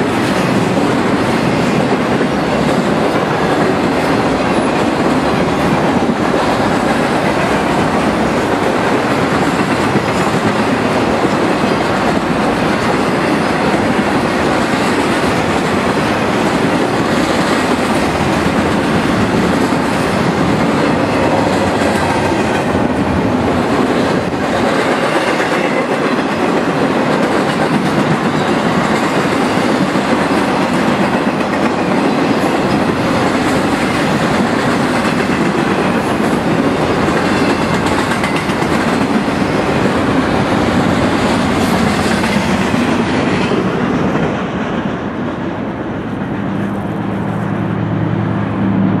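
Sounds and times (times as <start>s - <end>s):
train wheels clattering on rail: 0.0s - 47.3s.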